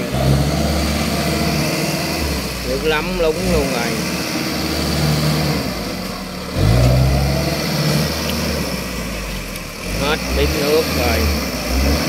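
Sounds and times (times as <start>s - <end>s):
harvester engine revving: 0.0s - 12.0s.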